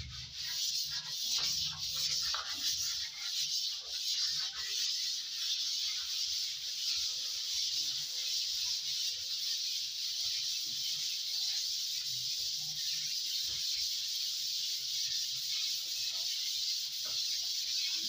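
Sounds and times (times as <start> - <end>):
sandpaper rubbing on plaster: 0.0 - 18.0.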